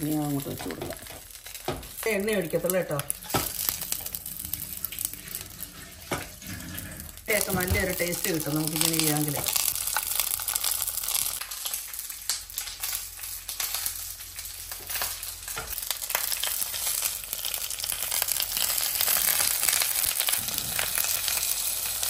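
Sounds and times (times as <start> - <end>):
fish sizzling in a pan: 0.0 - 22.0.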